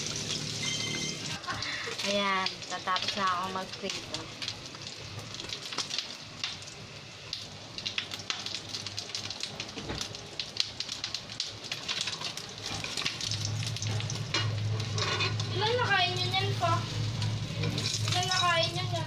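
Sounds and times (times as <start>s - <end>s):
fish frying in sizzling oil: 0.0s - 19.0s.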